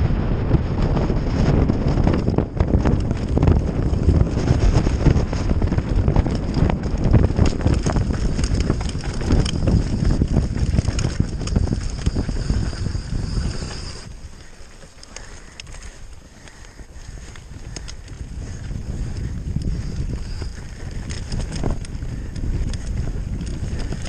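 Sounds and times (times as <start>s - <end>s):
bike rattling over bumps: 0.0s - 24.0s
bike tyres rumbling over dirt: 0.0s - 24.0s.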